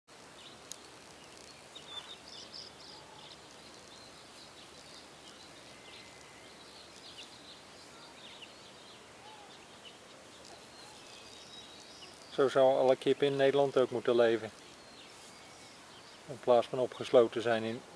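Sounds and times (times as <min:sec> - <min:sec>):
high bird chirps: 0:00.4 - 0:16.3.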